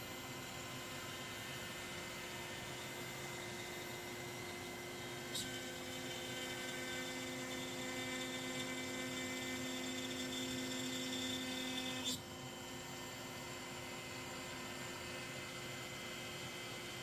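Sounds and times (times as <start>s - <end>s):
router spindle motor hum: 0.1s - 17.0s.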